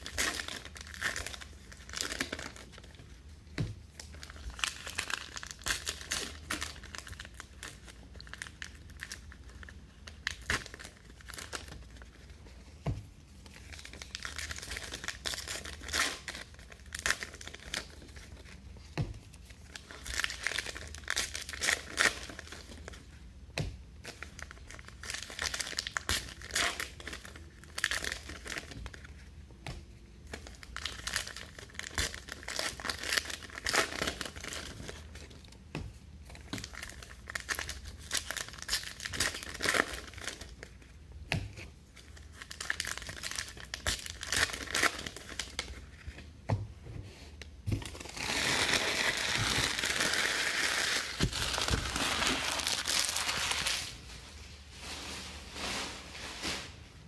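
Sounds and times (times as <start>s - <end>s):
wrappers crinkling and tearing: 0.0s - 3.2s, 3.9s - 12.4s, 13.5s - 18.7s, 19.3s - 23.2s, 24.0s - 29.4s, 30.2s - 35.6s, 36.2s - 41.0s, 41.8s - 46.1s, 47.7s - 57.0s.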